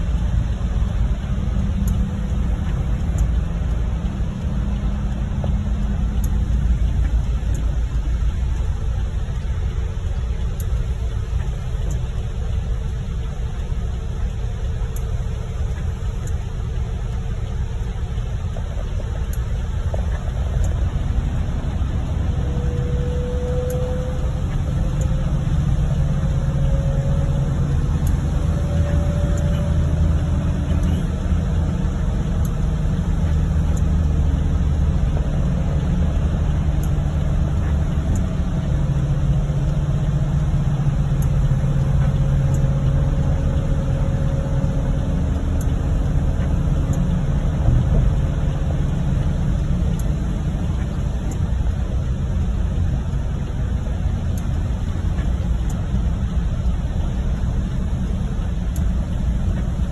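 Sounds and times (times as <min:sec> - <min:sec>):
engine and tyres rumbling: 0:00.0 - 0:59.9
rain on car: 0:00.0 - 0:59.9.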